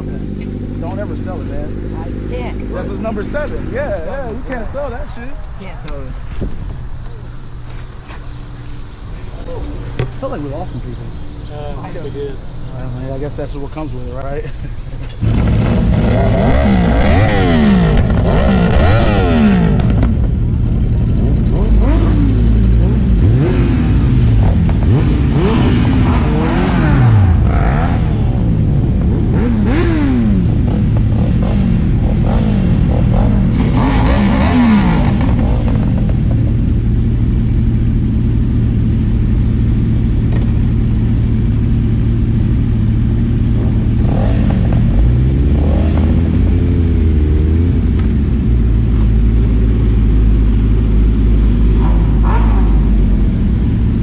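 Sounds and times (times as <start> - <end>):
engine and road drone: 0.0 - 54.0
motorcycle engines revving: 0.0 - 54.0.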